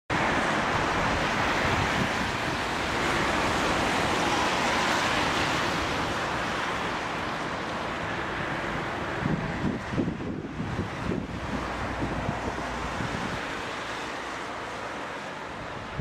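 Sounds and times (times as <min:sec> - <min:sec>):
wind buffeting microphone: 0:00.1 - 0:14.7, 0:15.3 - 0:16.0
steady rushing noise: 0:00.1 - 0:16.0.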